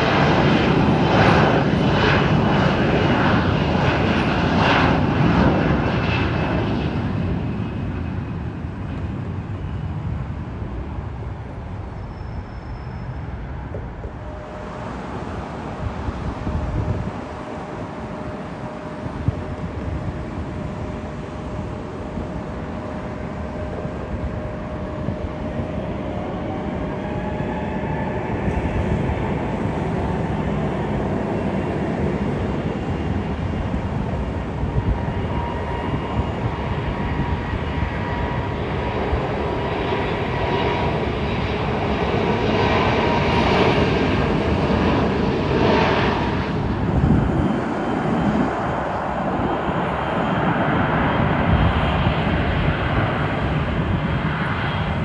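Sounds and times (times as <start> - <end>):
jet engines rumbling with whine: 0.0 - 55.0.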